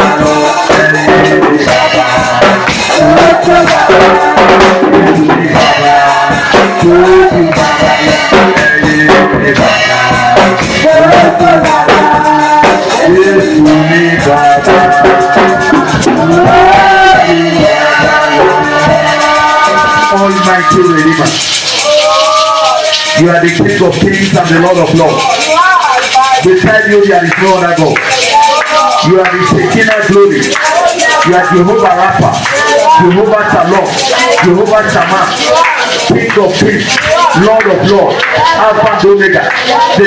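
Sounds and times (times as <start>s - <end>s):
drums and shakers: 0.0s - 40.0s
voices singing: 0.0s - 40.0s.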